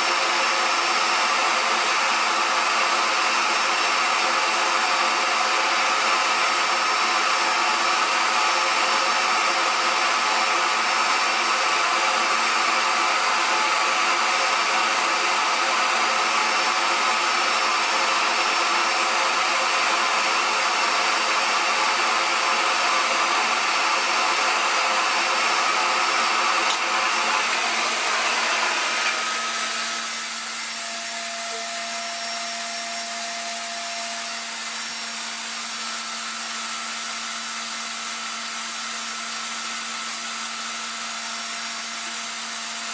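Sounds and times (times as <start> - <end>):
hair dryer whirring: 0.0 - 42.9.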